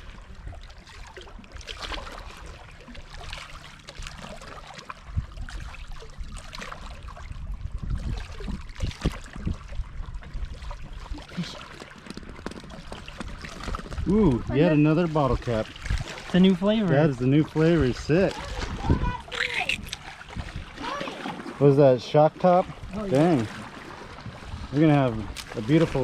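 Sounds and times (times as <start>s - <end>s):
water lapping on rocky shore: 0.0s - 26.0s.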